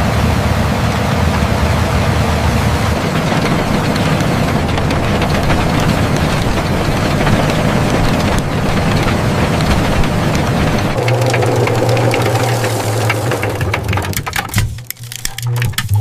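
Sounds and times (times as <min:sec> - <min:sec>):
tractor engine rumbling: 0:00.0 - 0:16.0.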